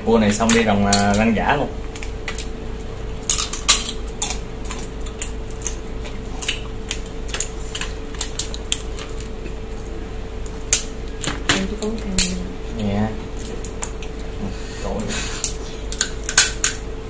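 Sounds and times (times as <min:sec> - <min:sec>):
steady low hum: 0:00.0 - 0:17.0
crab shells cracking: 0:00.2 - 0:14.4, 0:15.0 - 0:16.9.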